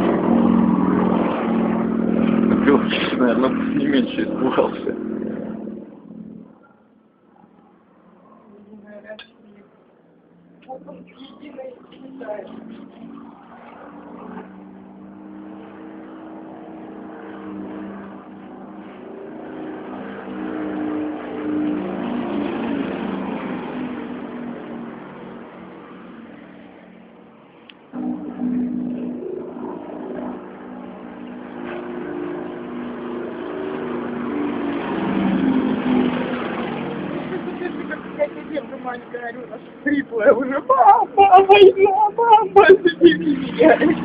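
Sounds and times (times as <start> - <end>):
airplane engine droning overhead: 0.0 - 44.0.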